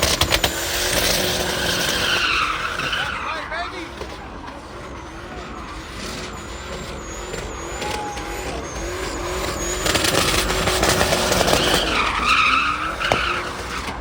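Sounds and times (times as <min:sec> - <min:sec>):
car engine under throttle: 0:00.0 - 0:14.0
tyres squealing: 0:00.0 - 0:14.0.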